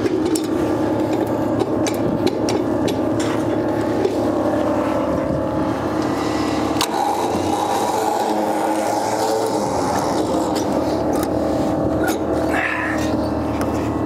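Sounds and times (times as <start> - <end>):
electric winch running under load: 0.0 - 14.0
steady drone: 0.0 - 14.0.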